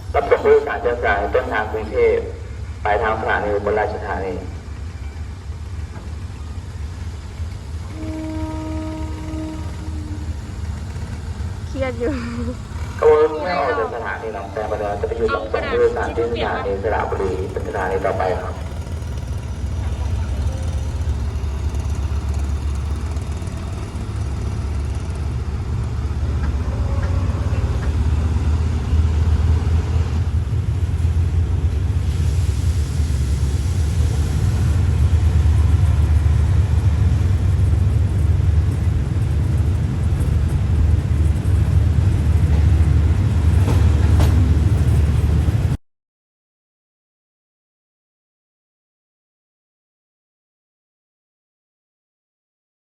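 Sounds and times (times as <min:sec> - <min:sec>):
train rumbling: 0:00.0 - 0:45.8.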